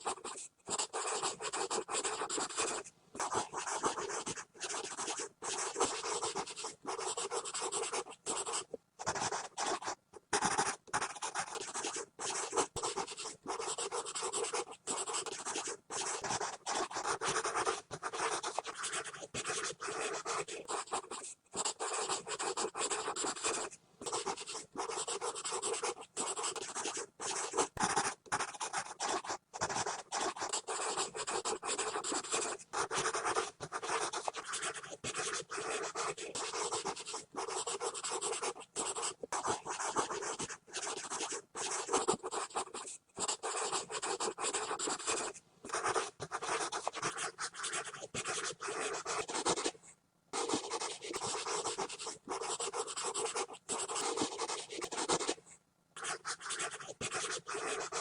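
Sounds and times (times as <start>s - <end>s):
pencil scribbling on paper: 0.0s - 49.8s, 50.4s - 55.4s, 56.0s - 58.0s.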